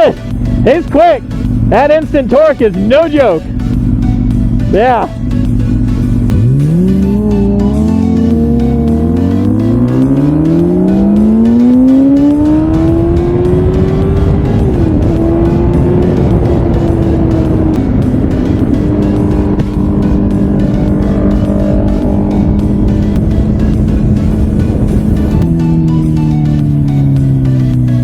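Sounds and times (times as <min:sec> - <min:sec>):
background music: 0:00.0 - 0:28.0
motor vehicle accelerating: 0:00.0 - 0:28.0.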